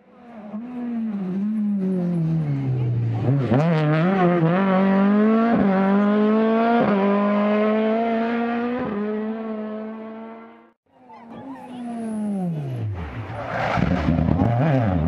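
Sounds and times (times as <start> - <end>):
rally car engine accelerating: 0.2 - 10.7, 11.6 - 15.0.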